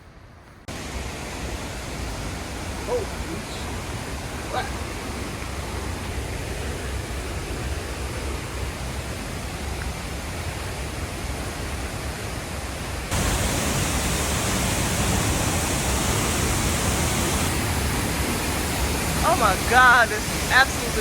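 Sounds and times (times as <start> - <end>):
waterfall rushing: 0.7 - 21.0.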